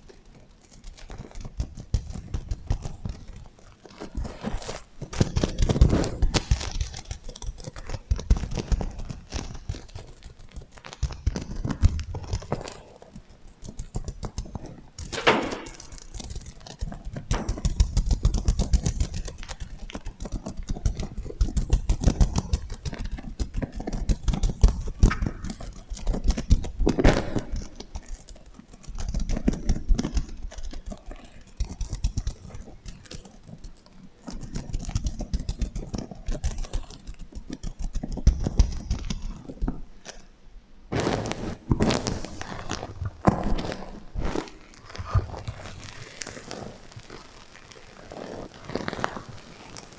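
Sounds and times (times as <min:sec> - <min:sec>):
sequins clicking and rustling: 0:00.0 - 0:40.3, 0:40.9 - 0:49.9.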